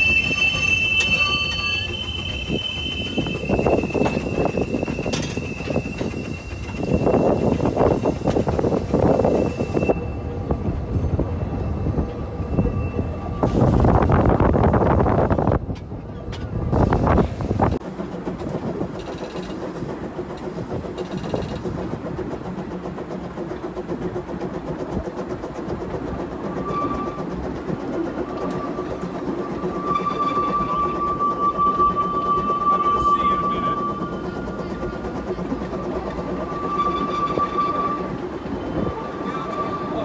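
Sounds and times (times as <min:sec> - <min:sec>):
miniature steam train running: 0:00.0 - 0:40.0.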